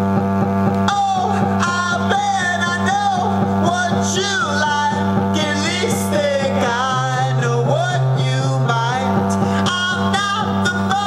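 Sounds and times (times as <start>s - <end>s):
rock song through speaker: 0.0s - 11.0s.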